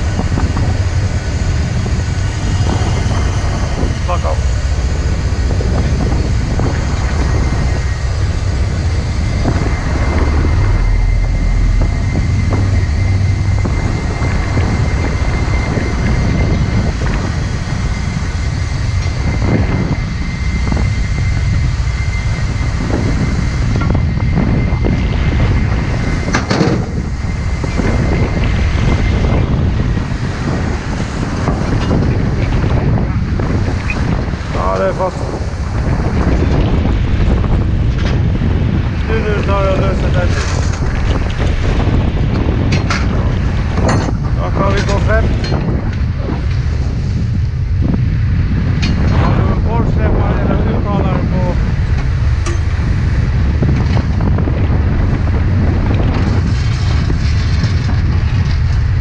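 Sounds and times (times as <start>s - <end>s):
boat engines droning: 0.0s - 59.0s
faint steady whine: 0.0s - 59.0s
sea: 0.0s - 59.0s
wind buffeting microphone: 0.0s - 59.0s.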